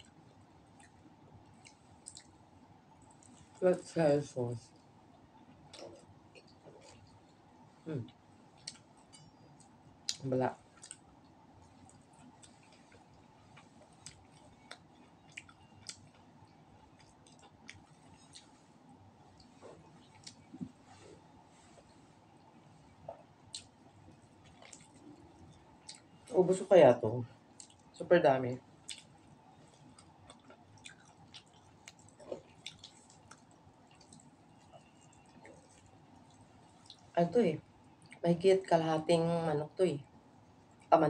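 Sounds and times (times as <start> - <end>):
person chewing food: 0.0 - 3.6, 4.7 - 26.3, 27.4 - 28.0, 28.7 - 37.2, 37.8 - 38.2.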